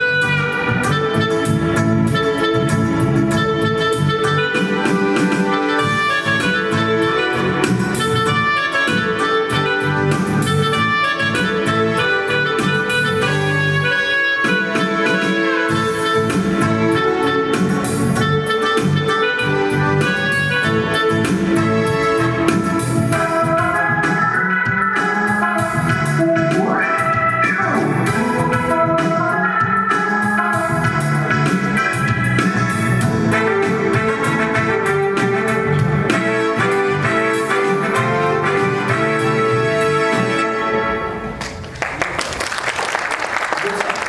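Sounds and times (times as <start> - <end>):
keyboard playing organ-like melody: 0.0 - 41.0.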